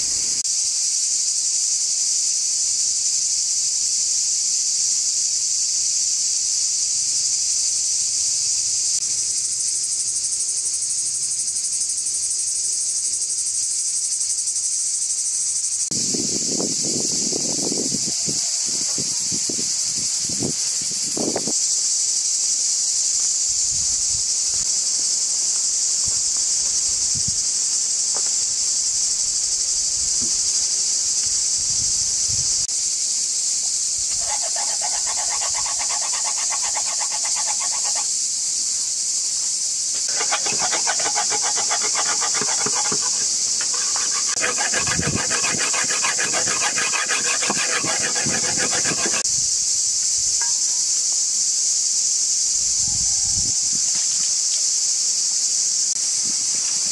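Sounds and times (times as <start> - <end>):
pulsing buzzing insect call: 0.0 - 5.4, 6.3 - 50.1
insects chorus: 0.0 - 56.9.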